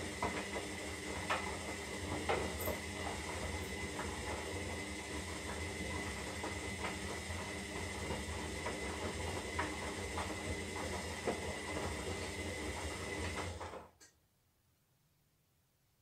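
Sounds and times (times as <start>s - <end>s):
washing machine humming: 0.0s - 14.0s
washing machine whine: 0.0s - 14.0s.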